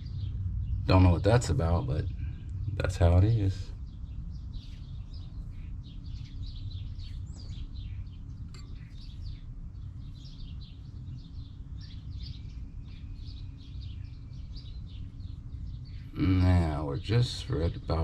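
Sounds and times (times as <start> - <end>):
birds chirping and twittering: 0.0 - 18.0
steady low rumble: 0.0 - 18.0.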